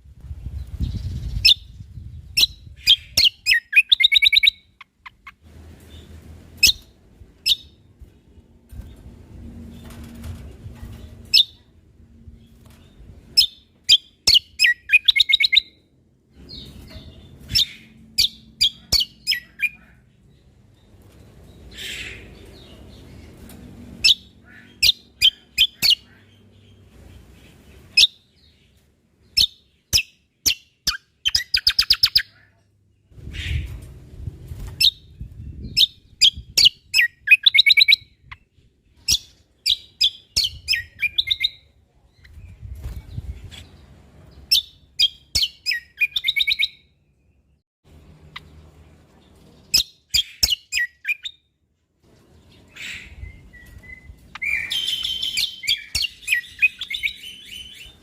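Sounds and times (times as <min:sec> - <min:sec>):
songbird singing: 0:00.2 - 0:09.1, 0:10.9 - 0:34.0, 0:34.6 - 0:58.0.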